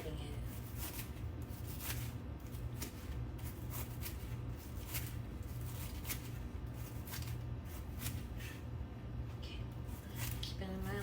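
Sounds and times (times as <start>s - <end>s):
knife slicing cabbage on board: 0.4s - 8.6s, 9.9s - 10.9s.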